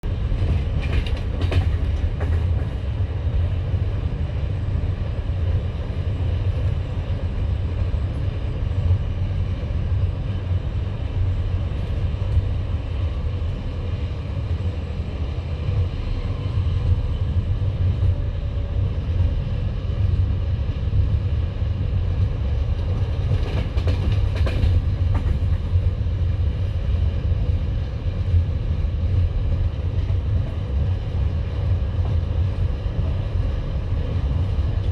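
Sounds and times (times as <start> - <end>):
train wheels rumbling on track: 0.0 - 34.9.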